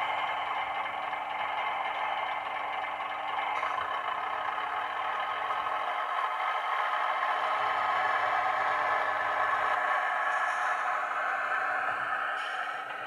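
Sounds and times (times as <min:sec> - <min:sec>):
diesel train engine running: 0:00.0 - 0:13.0.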